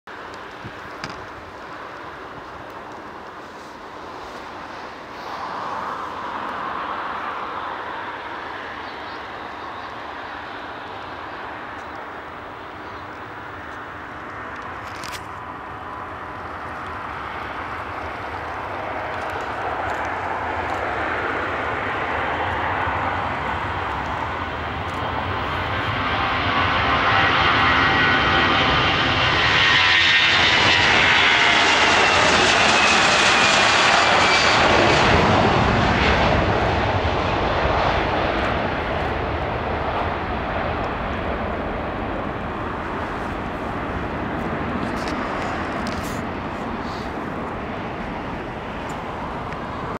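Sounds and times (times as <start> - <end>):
jet engine roar: 0.1 - 50.0.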